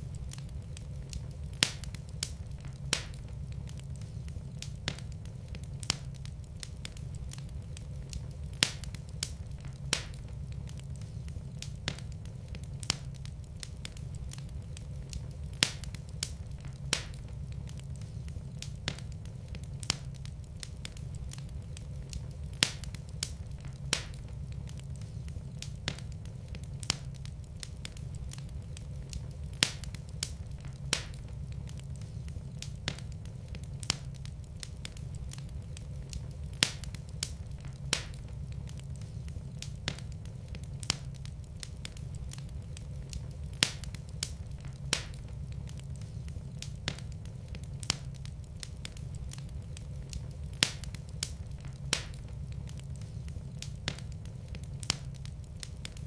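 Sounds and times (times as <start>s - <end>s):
fire crackling and popping: 0.0s - 56.0s
low rumble of flame: 0.0s - 56.0s.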